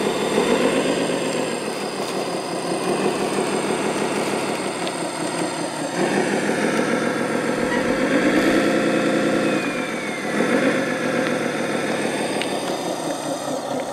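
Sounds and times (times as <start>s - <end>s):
model engine chugging: 0.0s - 13.9s.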